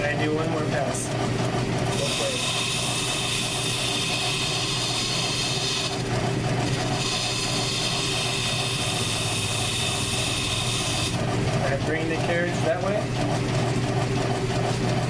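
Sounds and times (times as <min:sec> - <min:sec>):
metal lathe running hum: 0:00.0 - 0:15.0.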